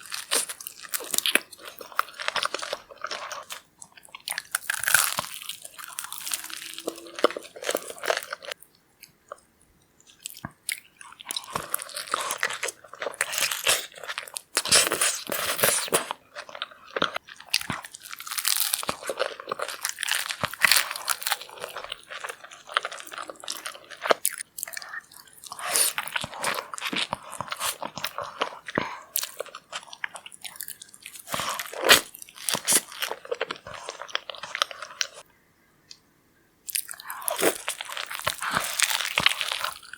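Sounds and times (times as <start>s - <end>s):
crunching and chewing food: 0.0s - 35.3s, 36.7s - 39.9s.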